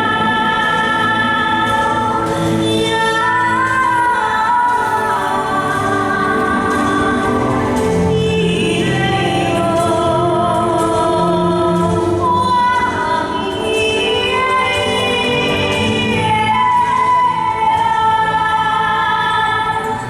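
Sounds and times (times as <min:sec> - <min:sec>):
low musical accompaniment: 0:00.0 - 0:20.0
singing in long held notes: 0:00.0 - 0:20.0.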